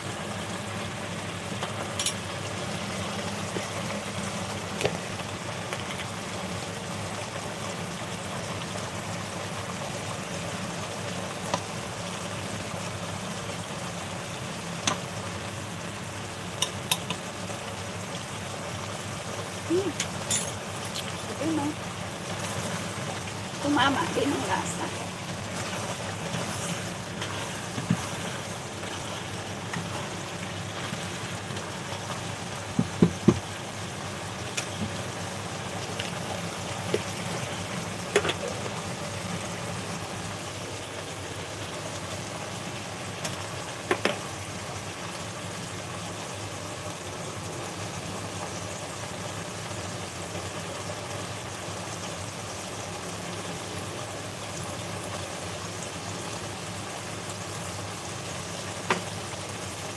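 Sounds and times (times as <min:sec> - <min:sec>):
stew boiling in a pot: 0:00.0 - 0:59.9.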